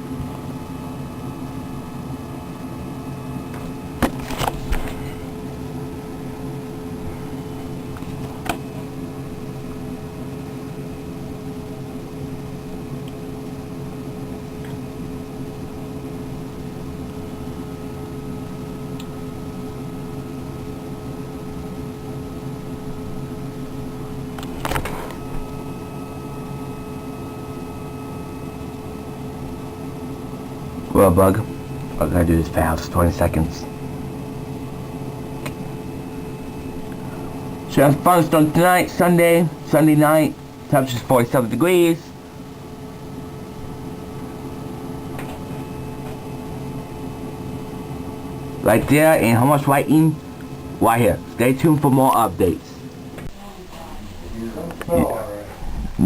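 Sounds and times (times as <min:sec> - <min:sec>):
machine-like hum: 0:00.0 - 0:56.0.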